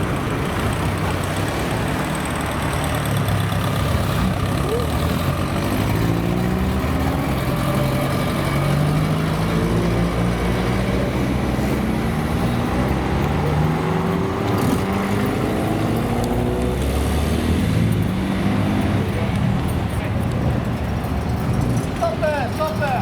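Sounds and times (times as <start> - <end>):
car engine running at low revs: 0.0 - 22.1.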